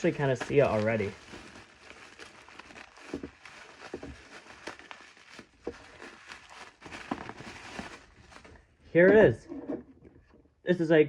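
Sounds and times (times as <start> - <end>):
packaging rustling and crinkling: 0.0 - 9.0
small knocks and scrapes: 0.2 - 10.5.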